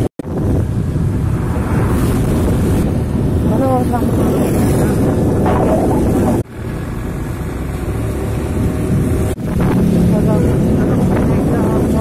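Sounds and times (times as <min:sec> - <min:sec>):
wind rushing over microphone: 0:00.0 - 0:06.6, 0:07.7 - 0:12.0
traffic noise on wet road: 0:00.0 - 0:12.0.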